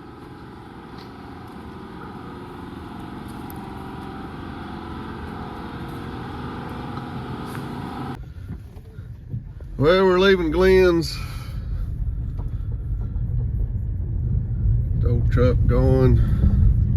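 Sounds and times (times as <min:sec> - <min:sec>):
truck engine running: 0:00.0 - 0:16.9.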